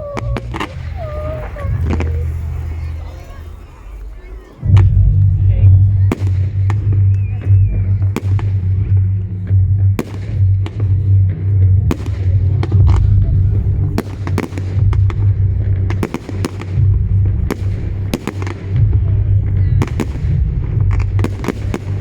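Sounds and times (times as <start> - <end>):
fireworks bangs and crackles: 0.0 - 22.0
steady low rumble: 0.0 - 22.0.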